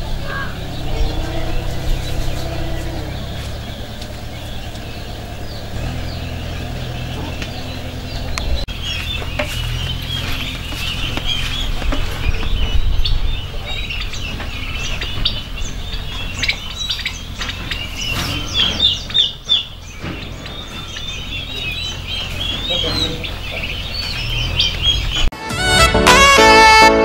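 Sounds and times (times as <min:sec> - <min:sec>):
chicks peeping: 0:00.0 - 0:25.3
low steady rumble: 0:00.0 - 0:25.3.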